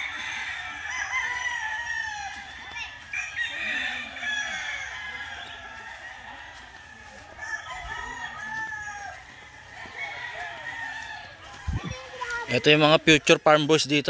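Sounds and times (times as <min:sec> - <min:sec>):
roosters crowing: 0:00.0 - 0:14.0.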